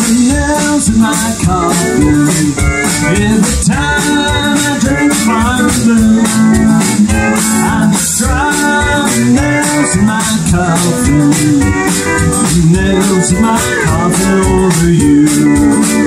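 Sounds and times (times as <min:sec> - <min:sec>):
country band playing: 0:00.0 - 0:16.0.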